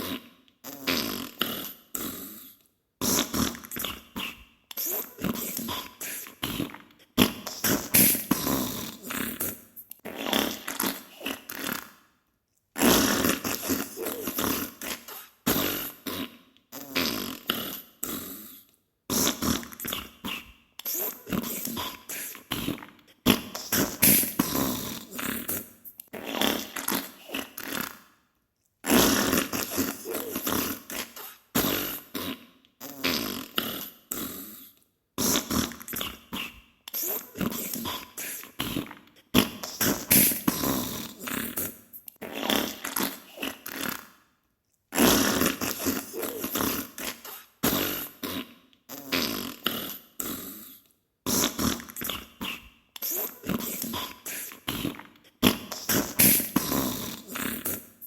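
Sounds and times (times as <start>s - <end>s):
sputtering farts: 3.0s - 12.0s, 12.8s - 18.4s, 19.1s - 28.0s, 28.8s - 34.5s, 35.2s - 44.1s, 44.9s - 50.6s, 51.3s - 58.0s.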